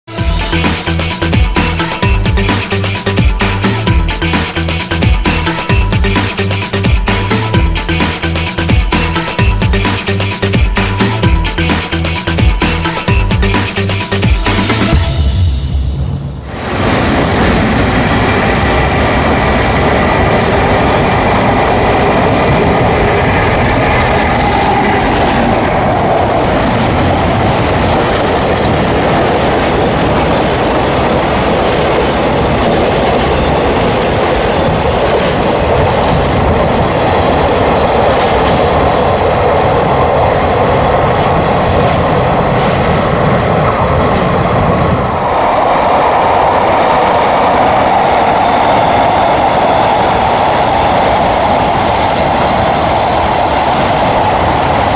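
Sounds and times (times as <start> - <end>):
freight train wheels rumbling: 0.1 - 54.9.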